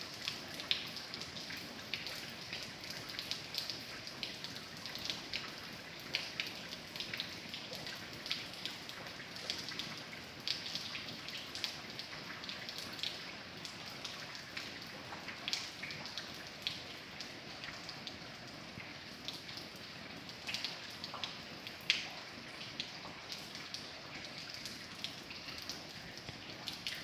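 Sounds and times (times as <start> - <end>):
rain drops pattering: 0.0 - 27.0
steady rain hiss: 0.0 - 27.0.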